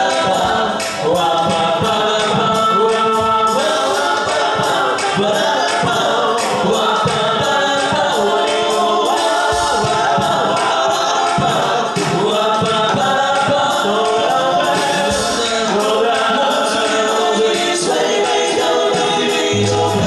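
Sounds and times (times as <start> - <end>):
men singing in harmony: 0.0 - 20.0.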